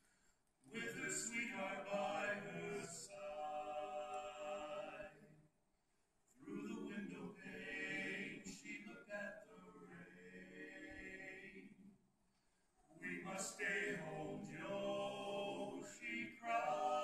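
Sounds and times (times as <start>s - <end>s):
male quartet singing in harmony: 0.7s - 5.2s, 6.4s - 11.8s, 13.0s - 17.0s.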